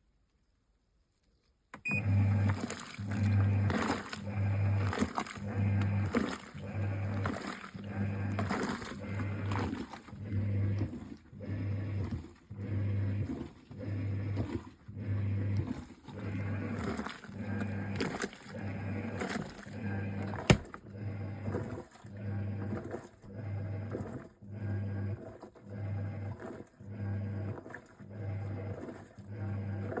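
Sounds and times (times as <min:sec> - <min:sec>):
washing machine motor humming: 0:01.8 - 0:30.0
water churning: 0:01.9 - 0:30.0.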